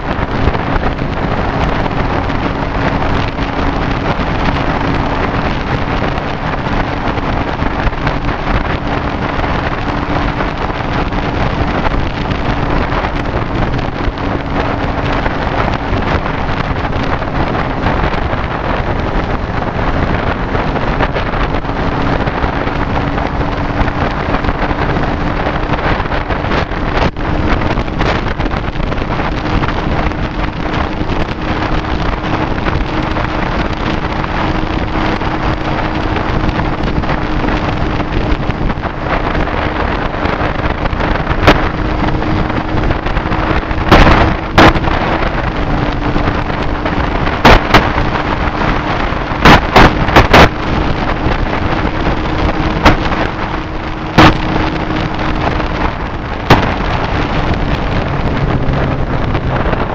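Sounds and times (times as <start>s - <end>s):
loud wind blasts on microphone: 0.0s - 59.9s
motorcycle engine hum: 0.0s - 59.9s
wind rushing over microphone: 0.0s - 59.9s.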